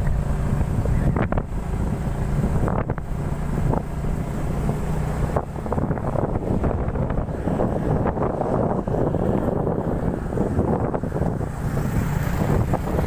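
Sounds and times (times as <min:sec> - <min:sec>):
vehicle engine humming: 0:00.0 - 0:13.0
wind buffeting microphone: 0:00.0 - 0:13.0.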